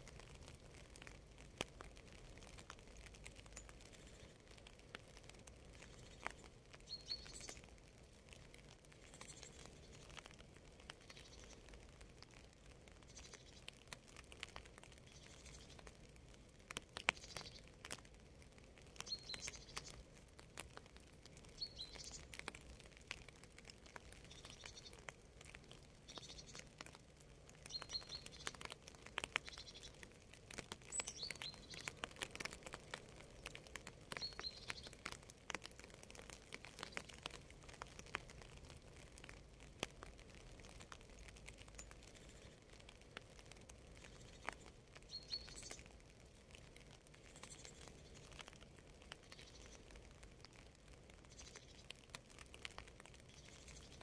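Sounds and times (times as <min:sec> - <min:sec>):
small birds chirping: 0:00.1 - 0:54.0.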